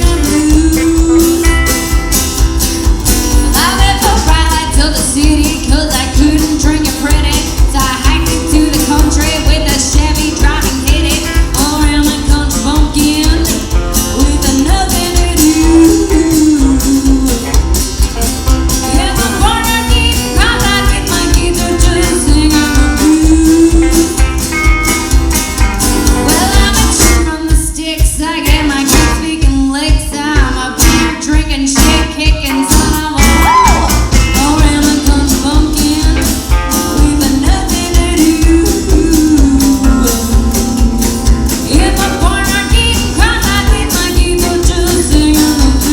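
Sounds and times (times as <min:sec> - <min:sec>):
woman singing: 0:00.0 - 0:02.1, 0:03.4 - 0:17.8, 0:18.8 - 0:24.5, 0:26.1 - 0:40.9, 0:41.5 - 0:45.9
country band playing: 0:00.0 - 0:45.9.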